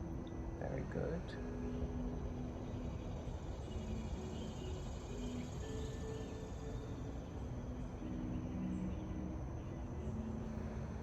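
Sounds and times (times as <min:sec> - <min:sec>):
faint insect sounds: 0:00.0 - 0:11.0
low background noise: 0:00.0 - 0:11.0.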